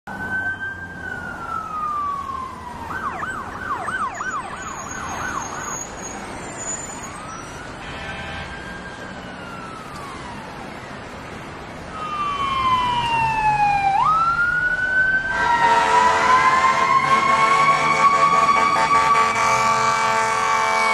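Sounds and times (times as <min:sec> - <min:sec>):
emergency vehicle sirens: 0:00.1 - 0:20.9.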